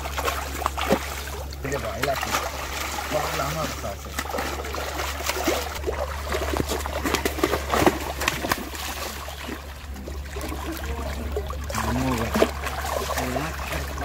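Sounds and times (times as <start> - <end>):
fish splashing in water: 0.0 - 14.0.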